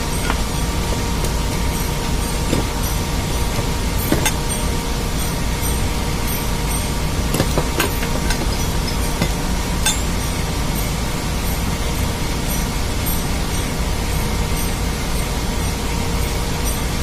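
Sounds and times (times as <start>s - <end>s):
metal clinks: 0.0s - 14.8s
engine room machinery drone: 0.0s - 17.0s.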